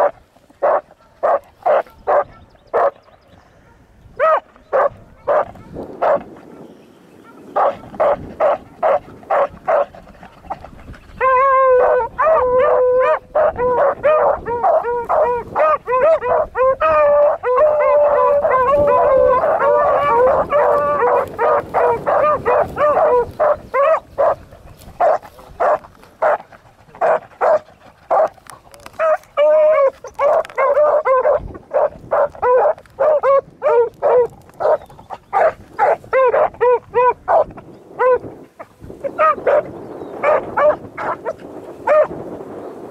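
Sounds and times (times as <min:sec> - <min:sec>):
dogs baying: 0:00.0 - 0:06.6, 0:07.2 - 0:38.3, 0:39.0 - 0:42.2.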